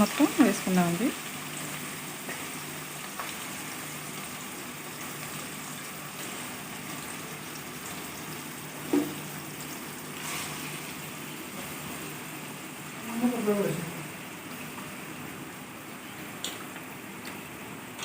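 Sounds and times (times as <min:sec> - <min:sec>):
chicken sizzling in hot oil: 0:00.0 - 0:18.0.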